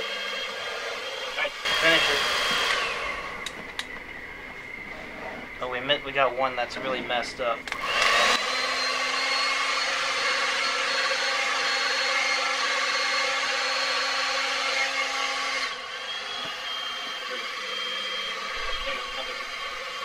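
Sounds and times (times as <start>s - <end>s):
hair dryer blowing: 0.0s - 4.8s, 7.6s - 20.0s.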